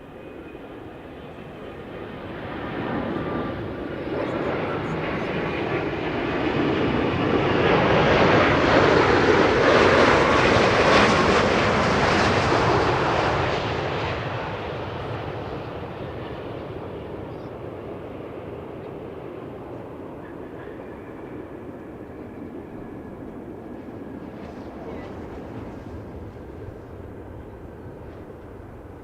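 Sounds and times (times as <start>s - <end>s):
jet airliner landing: 0.0s - 29.0s.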